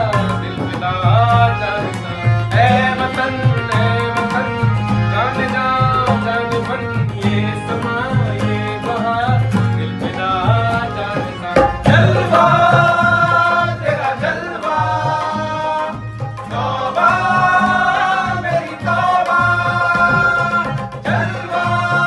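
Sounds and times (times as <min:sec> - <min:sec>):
guitar: 0:00.0 - 0:22.0
harmonium: 0:00.0 - 0:22.0
men singing: 0:00.0 - 0:22.0.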